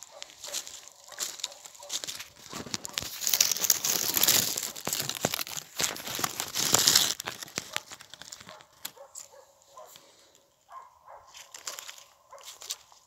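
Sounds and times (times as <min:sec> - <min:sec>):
dry leaves crackling: 0:00.0 - 0:10.3, 0:11.1 - 0:13.0
branches rustling: 0:00.0 - 0:13.0.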